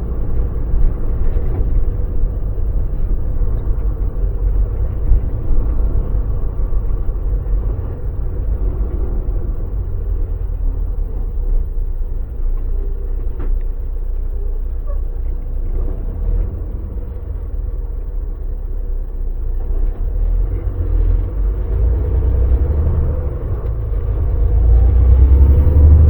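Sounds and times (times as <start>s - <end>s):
road rumble: 0.0s - 26.0s
truck engine drone: 0.0s - 26.0s.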